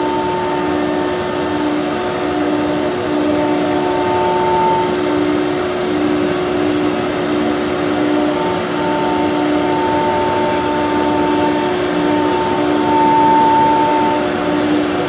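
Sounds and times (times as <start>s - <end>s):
cnc router machine whine: 0.0s - 15.0s.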